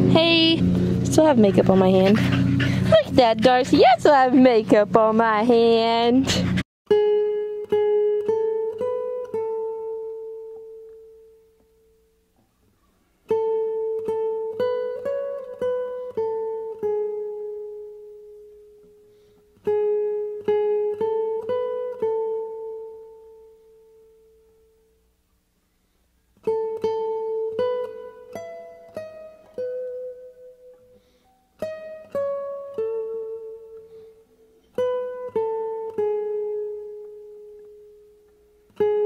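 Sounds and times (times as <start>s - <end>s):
plucked string melody: 0.0s - 12.4s, 13.2s - 25.1s, 26.4s - 39.0s.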